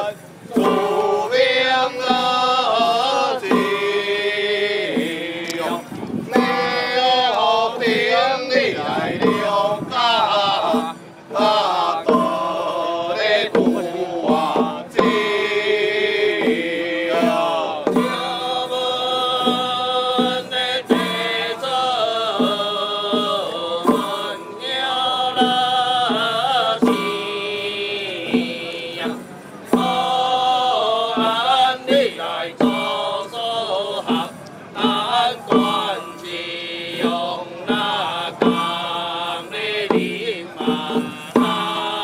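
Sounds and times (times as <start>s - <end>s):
person chanting: 0.0s - 29.2s, 29.8s - 42.0s
steady percussion strokes: 0.0s - 42.0s.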